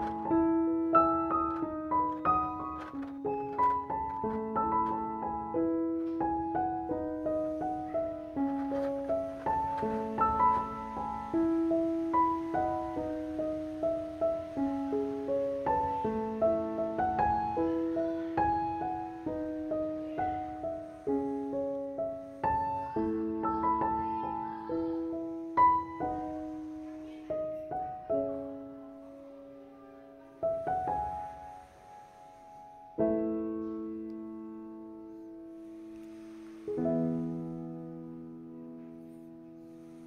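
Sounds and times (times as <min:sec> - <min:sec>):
solo piano playing: 0:00.0 - 0:40.0.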